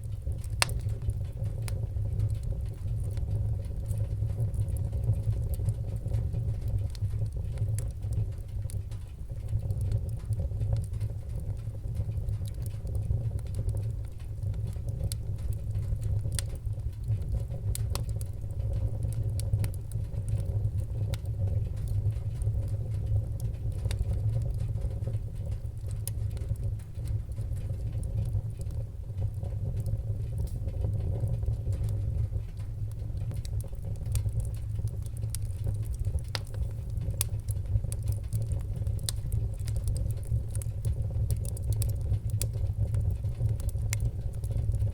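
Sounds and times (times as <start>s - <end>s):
flames rumbling: 0.0s - 44.9s
wood fire crackling: 0.0s - 44.9s.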